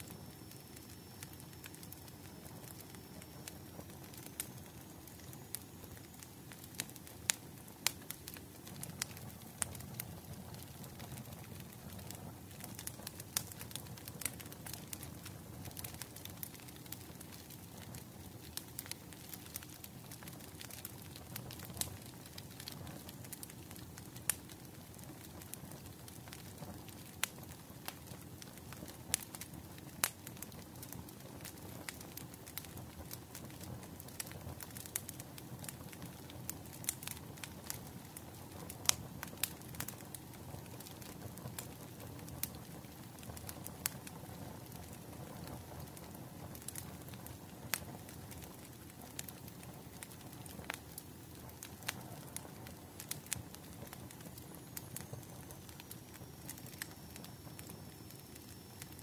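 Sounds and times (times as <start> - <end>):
bonfire crackling: 0.0 - 59.0
soft steady hiss: 0.0 - 59.0.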